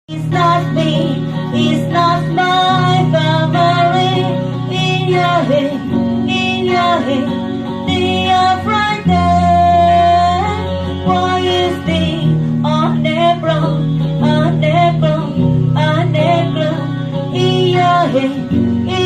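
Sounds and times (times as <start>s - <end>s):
high singing voice: 0.1s - 19.0s
instrumental backing with bass: 0.1s - 19.0s.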